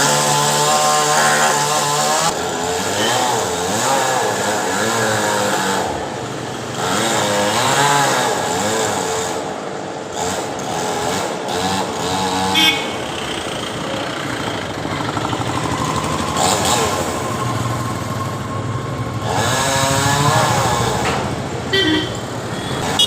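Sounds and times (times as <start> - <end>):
chainsaw engine revving: 0.0 - 17.9, 19.1 - 23.0.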